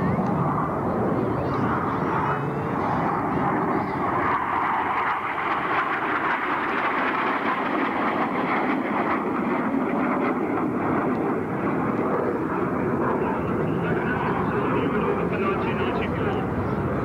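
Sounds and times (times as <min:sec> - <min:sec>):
jet engines rushing overhead: 0:00.0 - 0:17.0.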